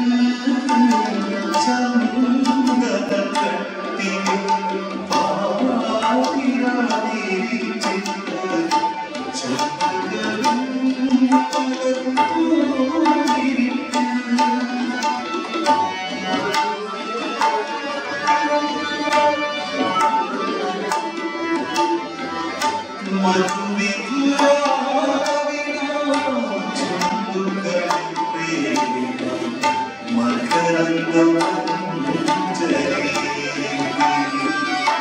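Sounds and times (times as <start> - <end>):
tabla strokes: 0.0 - 35.0.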